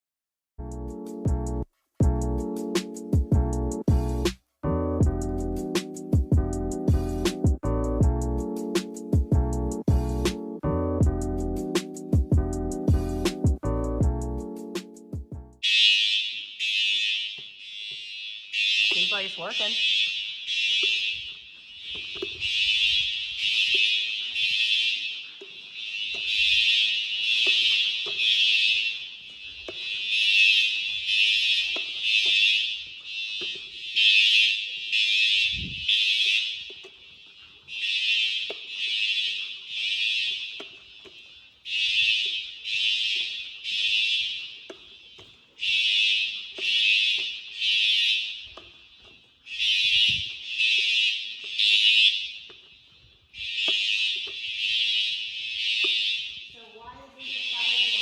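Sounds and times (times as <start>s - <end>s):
fire alarm horn blasts: 5.0s - 58.0s.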